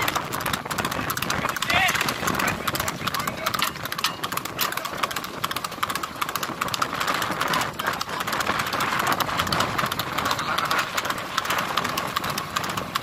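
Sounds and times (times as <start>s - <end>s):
cart wheels rolling and rattling: 0.0s - 13.0s
horse hoofbeats on paved road: 0.0s - 13.0s.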